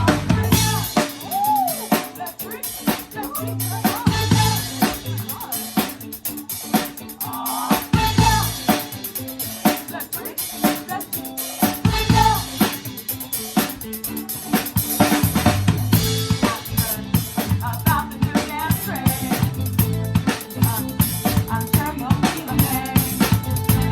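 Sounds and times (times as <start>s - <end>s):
live band playing pop-rock: 0.0s - 23.9s.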